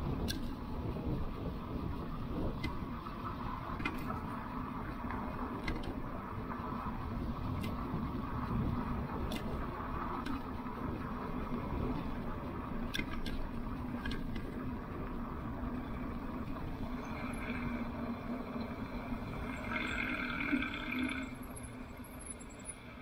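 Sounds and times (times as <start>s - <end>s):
electric bike riding: 0.0s - 23.0s.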